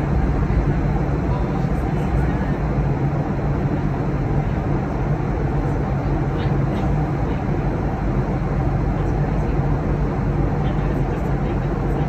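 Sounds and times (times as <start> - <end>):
airliner cabin roar: 0.0 - 12.0
constant low hum: 0.0 - 12.0.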